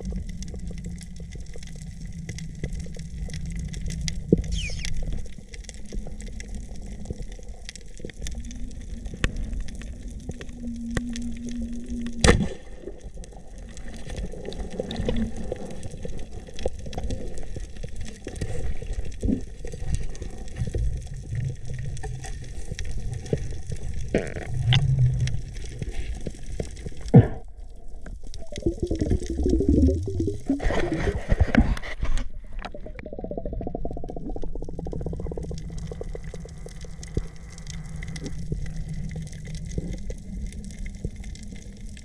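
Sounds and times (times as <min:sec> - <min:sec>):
muffled underwater gurgling: 0:00.0 - 0:42.0.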